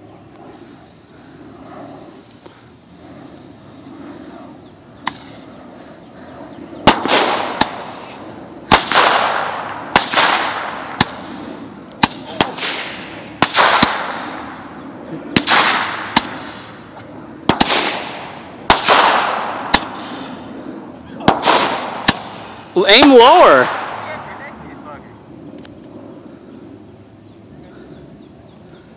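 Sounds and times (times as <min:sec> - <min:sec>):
firework hiss: 0:00.0 - 0:27.6.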